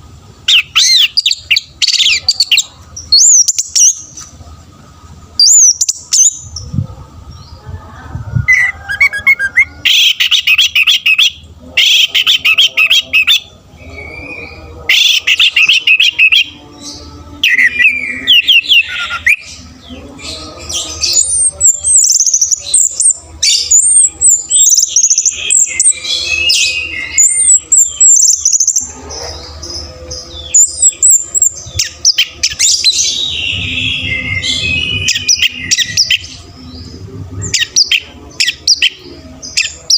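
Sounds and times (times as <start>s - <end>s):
thrush singing trills and whistles: 0.0s - 4.3s, 5.4s - 39.9s.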